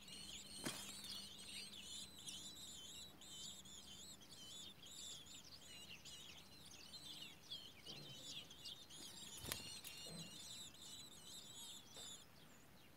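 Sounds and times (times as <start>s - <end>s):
nestlings begging chatter: 0.0s - 12.4s.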